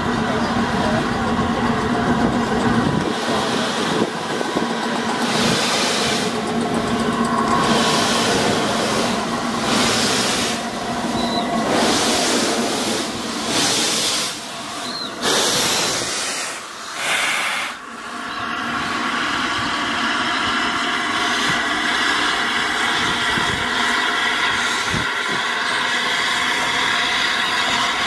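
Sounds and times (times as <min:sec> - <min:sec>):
steam locomotive hissing blasts: 0:00.0 - 0:28.0
train rumbling: 0:00.0 - 0:28.0.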